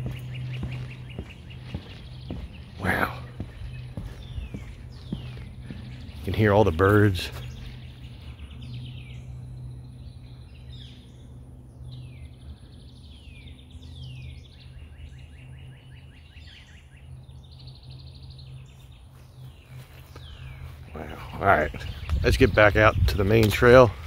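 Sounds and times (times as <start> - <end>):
songbirds chirping and trilling: 0.0 - 24.0
steady low hum: 0.0 - 24.0.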